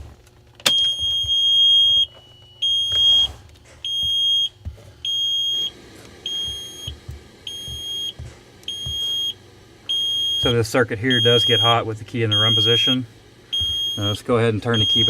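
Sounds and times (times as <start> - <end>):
dash warning buzzer beeping: 0.6 - 15.0.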